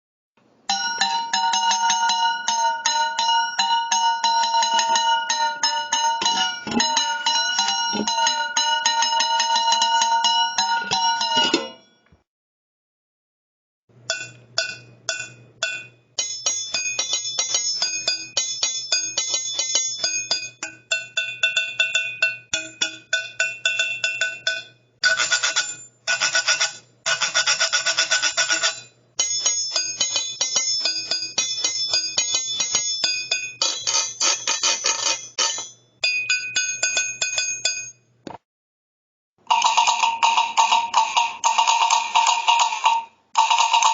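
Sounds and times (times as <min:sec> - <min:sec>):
metal cans struck as percussion: 0:00.7 - 0:11.9, 0:14.0 - 0:37.9, 0:39.4 - 0:43.9.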